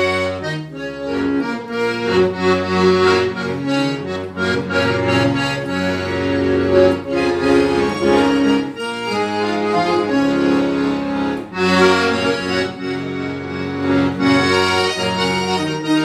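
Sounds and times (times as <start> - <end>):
accordion melody: 0.0 - 16.0.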